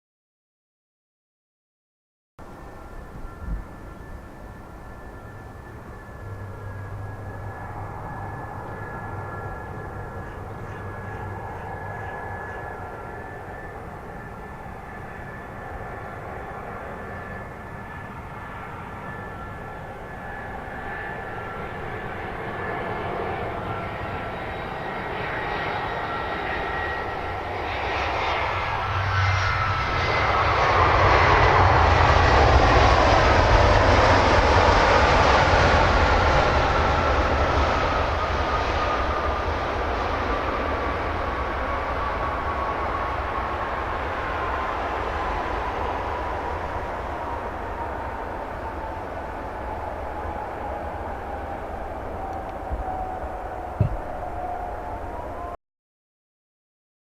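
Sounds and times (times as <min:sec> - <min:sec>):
jet airliner passing: 0:02.4 - 0:55.6.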